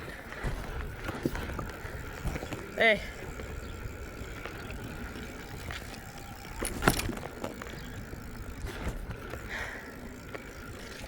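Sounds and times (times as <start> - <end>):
wind and riding noise rumble: 0.0 - 11.0.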